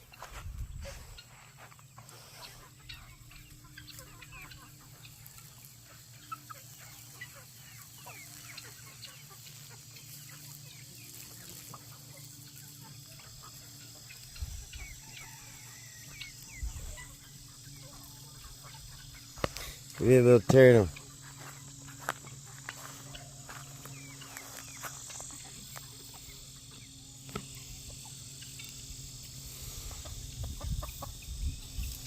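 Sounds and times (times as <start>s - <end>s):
chickens clucking: 0.0s - 32.0s
steady low hum: 0.0s - 32.0s.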